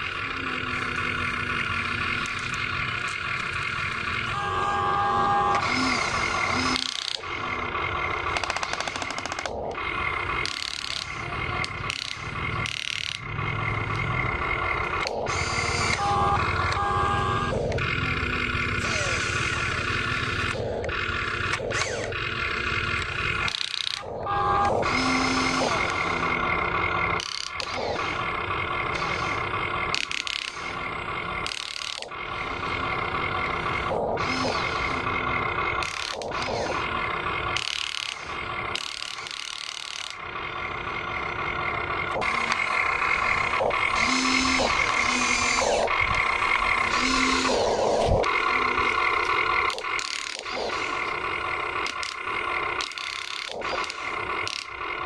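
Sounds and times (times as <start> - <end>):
electric motors whining: 0.0 - 55.0.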